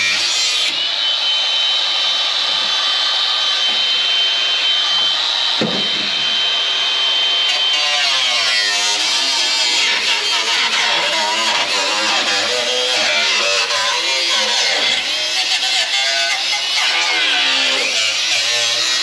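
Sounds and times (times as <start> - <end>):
power tool whining on steel: 0.0 - 19.0.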